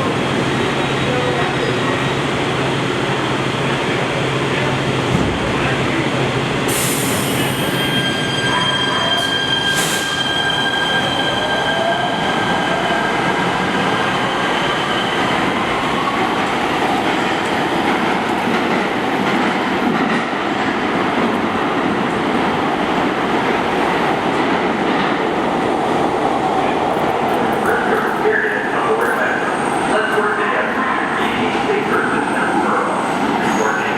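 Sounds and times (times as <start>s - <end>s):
train rail and wheel noise: 0.0s - 33.9s.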